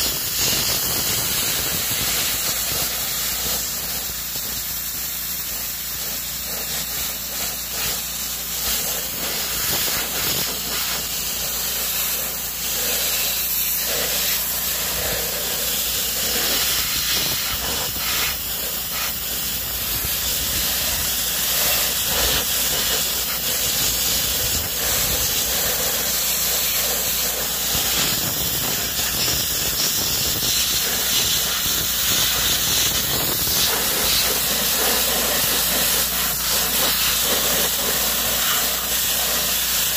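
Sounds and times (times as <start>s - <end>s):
pressure washer spraying metal: 0.0s - 39.9s.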